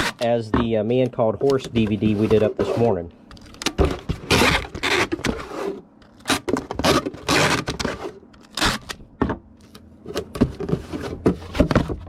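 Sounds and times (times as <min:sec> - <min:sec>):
cardboard box and packing rustling: 0:01.6 - 0:09.0, 0:09.6 - 0:12.0.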